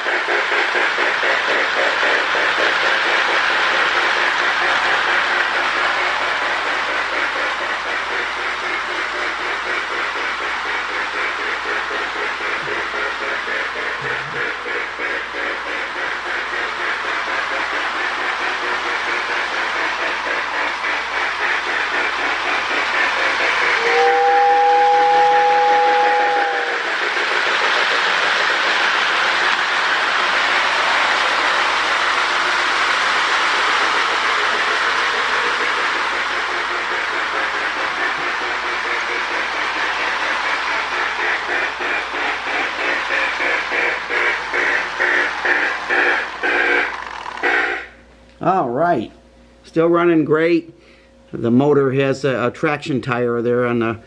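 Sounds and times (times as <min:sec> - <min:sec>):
toy train motor whirring: 0:00.0 - 0:48.0
wheels clattering on rails: 0:00.0 - 0:48.0
pulsing locomotive chuff: 0:00.0 - 0:54.0.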